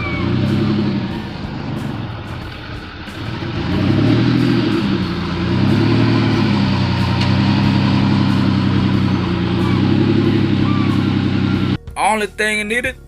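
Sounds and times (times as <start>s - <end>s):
truck engine revving: 0.0s - 11.8s.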